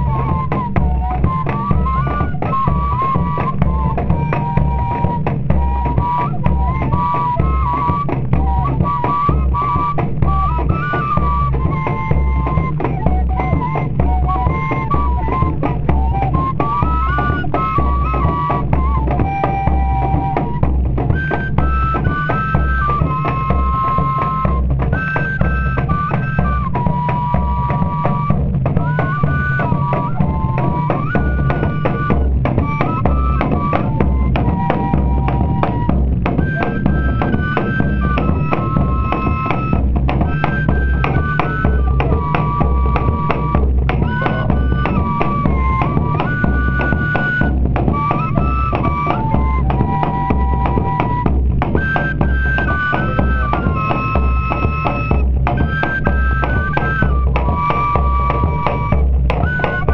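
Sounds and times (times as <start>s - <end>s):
fife melody: 0.0s - 59.9s
steady drum rhythm: 0.0s - 59.9s.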